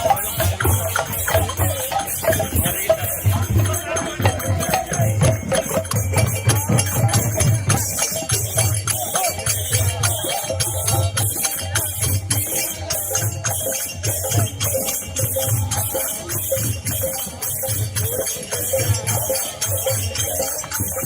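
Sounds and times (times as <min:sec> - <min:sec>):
drum strokes: 0:00.0 - 0:21.0
hand cymbals clashing: 0:00.0 - 0:21.0
voices chanting: 0:00.0 - 0:21.0.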